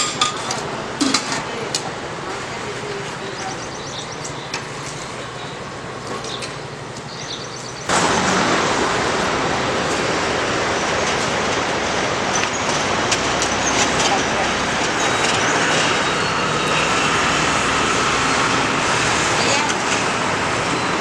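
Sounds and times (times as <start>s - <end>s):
roadside traffic rush: 0.0s - 21.0s.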